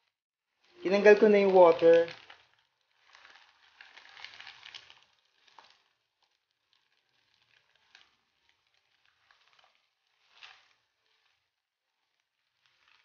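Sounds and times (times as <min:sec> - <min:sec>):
food sizzling in a pan: 0:00.9 - 0:13.0.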